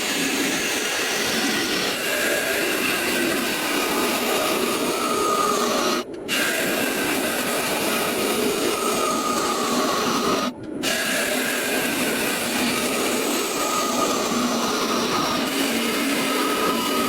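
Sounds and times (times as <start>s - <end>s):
faint motor whine: 0.0s - 17.0s
lathe tool scraping wood: 0.0s - 17.0s.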